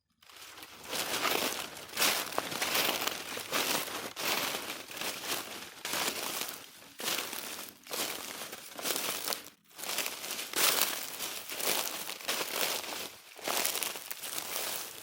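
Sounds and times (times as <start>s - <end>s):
footsteps crunching on forest floor: 0.2s - 15.0s.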